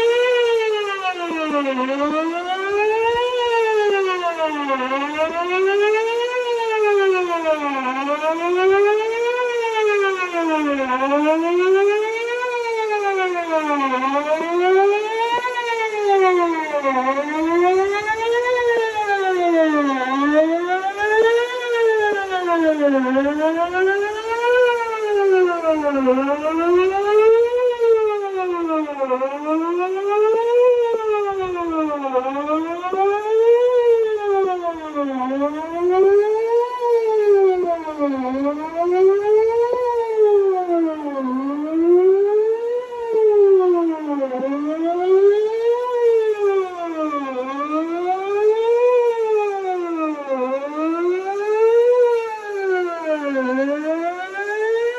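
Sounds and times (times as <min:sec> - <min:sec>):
wailing siren over loudspeakers: 0:00.0 - 0:54.9.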